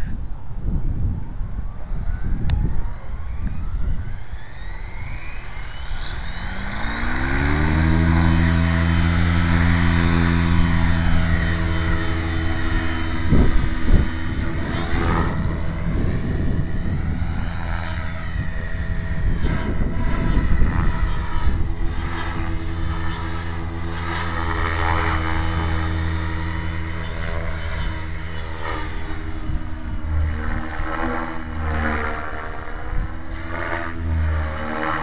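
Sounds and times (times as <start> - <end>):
electric motor whine: 0.0 - 35.0
helicopter rotor beat: 0.0 - 35.0
wind buffeting microphone: 0.0 - 35.0.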